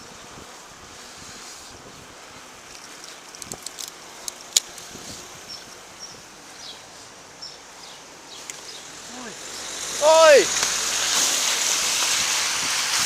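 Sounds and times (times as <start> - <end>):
road hiss: 0.0 - 13.0
wind: 0.0 - 13.0.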